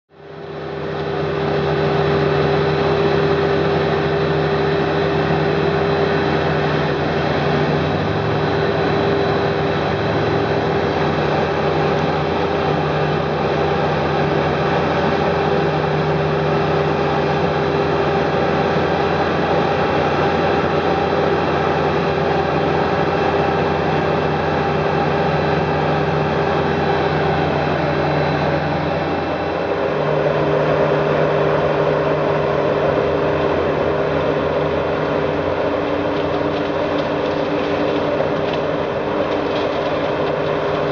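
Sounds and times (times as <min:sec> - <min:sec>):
heavy machinery engine running: 0:00.1 - 0:40.9.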